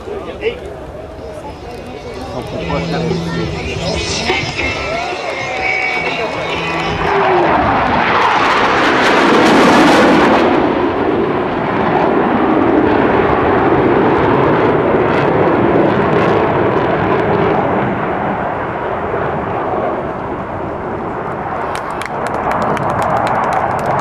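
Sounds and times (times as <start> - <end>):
jet engines roaring past: 0.0 - 24.0.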